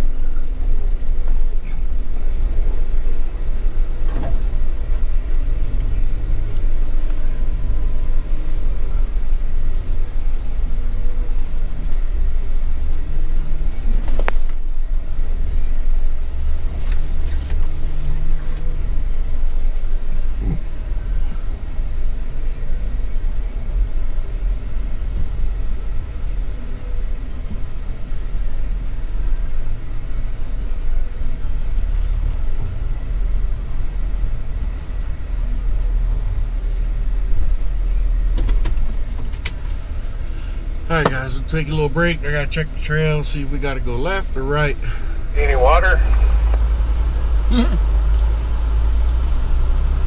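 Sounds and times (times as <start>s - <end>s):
engine and drivetrain rumble: 0.0s - 50.0s.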